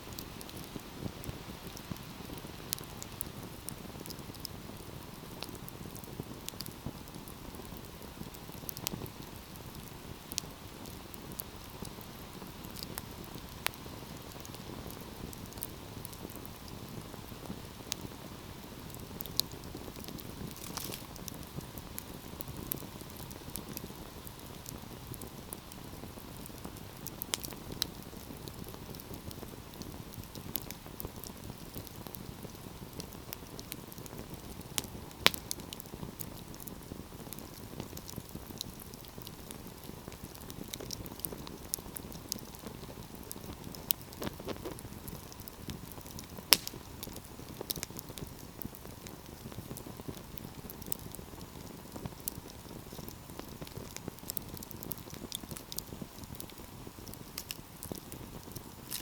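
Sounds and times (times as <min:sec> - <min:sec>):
fire crackles and pops: 0:00.0 - 0:59.0
low rush of flame: 0:00.0 - 0:59.0.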